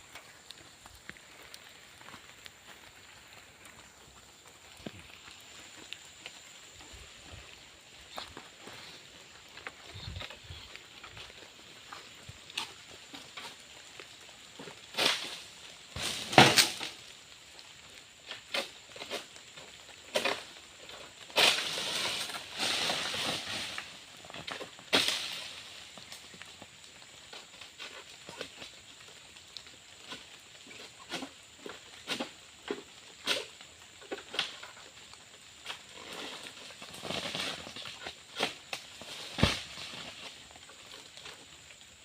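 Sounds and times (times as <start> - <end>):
rustling leaves: 0.0 - 42.0.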